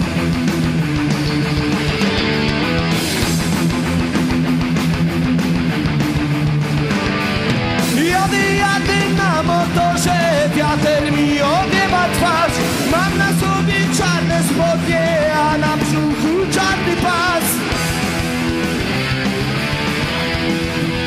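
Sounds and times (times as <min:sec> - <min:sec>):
rock song with singer: 0:00.0 - 0:21.0.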